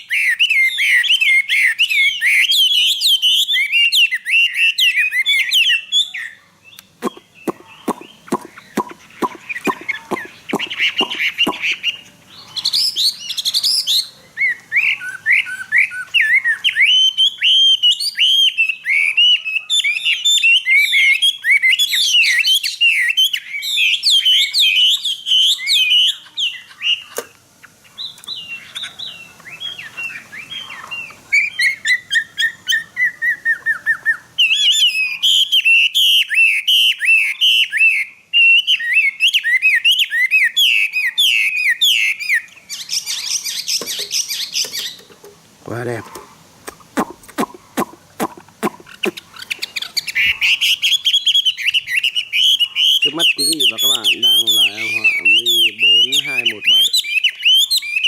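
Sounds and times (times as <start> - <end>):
bird singing whistled notes: 0.0 - 27.2, 28.0 - 45.0, 48.7 - 58.0.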